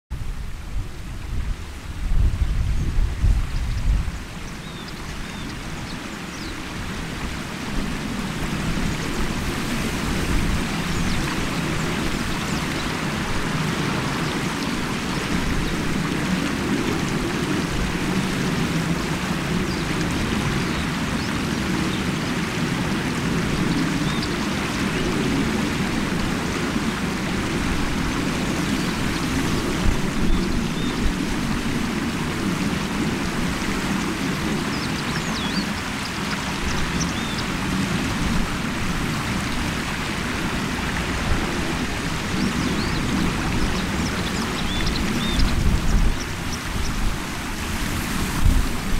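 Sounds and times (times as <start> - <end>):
river water over stones: 0.2 - 48.9.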